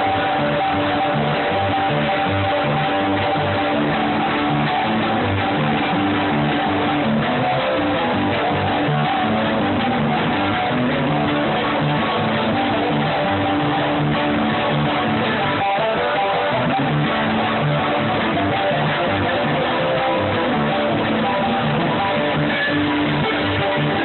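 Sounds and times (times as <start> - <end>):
bluegrass band playing: 0.0 - 24.0
strummed guitar: 0.0 - 24.0.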